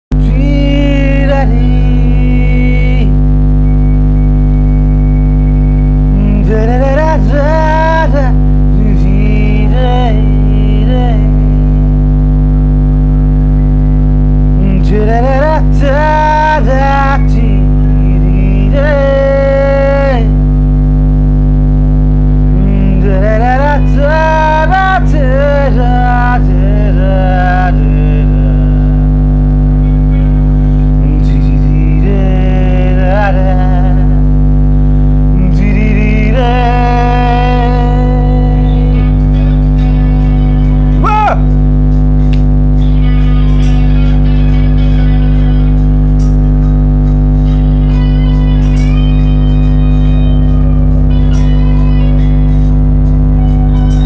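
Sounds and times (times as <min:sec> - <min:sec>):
man singing: 0:00.1 - 0:03.8, 0:05.5 - 0:12.2, 0:14.5 - 0:20.6, 0:22.4 - 0:54.0.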